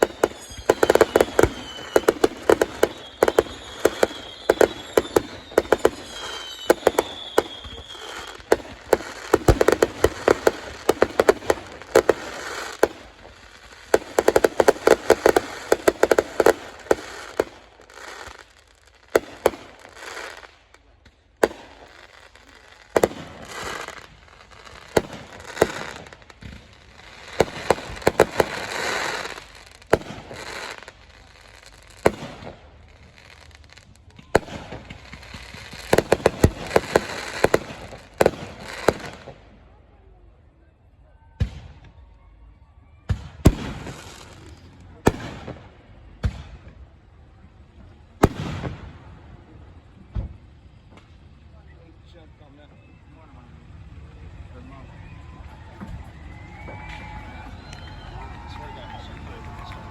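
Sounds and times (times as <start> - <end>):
falling firework whistles: 0.0 - 20.6, 21.4 - 39.4, 41.1 - 46.8, 48.2 - 59.9
fireworks bangs and crackling: 0.0 - 42.1, 43.0 - 59.9.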